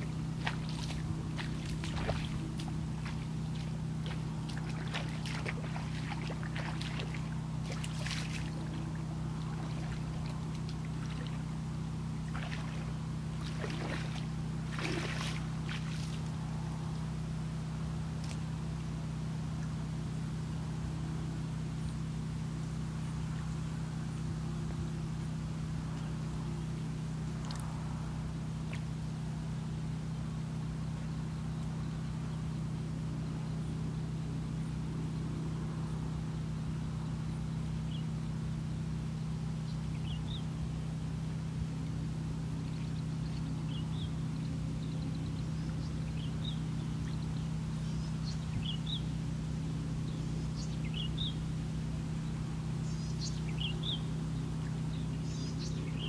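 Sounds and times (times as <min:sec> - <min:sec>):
low engine drone: 0:00.0 - 0:56.0.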